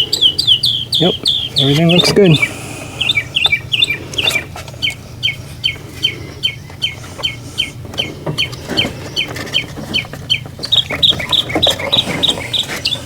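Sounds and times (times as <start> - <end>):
bird chirping: 0.0 - 13.0
faint low hum: 0.0 - 13.0.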